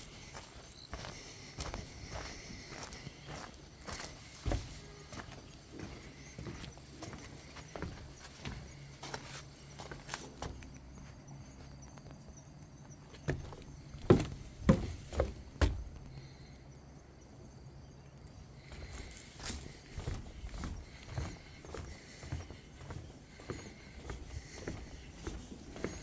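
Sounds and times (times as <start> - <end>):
footsteps on forest path: 0.0 - 11.8, 13.1 - 16.4, 18.4 - 26.0.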